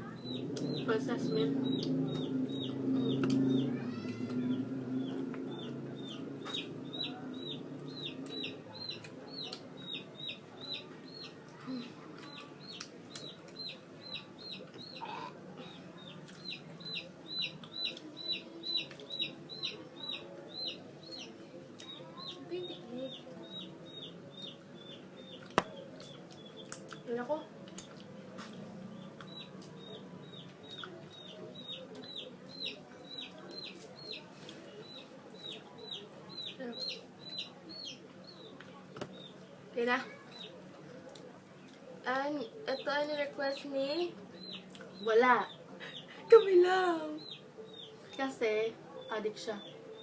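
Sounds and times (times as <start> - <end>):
chicks peeping: 0.0 - 40.6, 42.4 - 46.5, 47.1 - 50.0.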